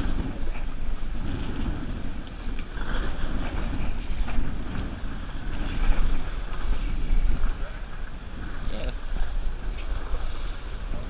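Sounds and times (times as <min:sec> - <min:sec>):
boat and water noise: 0:00.0 - 0:11.0
wind buffeting microphone: 0:00.0 - 0:11.0.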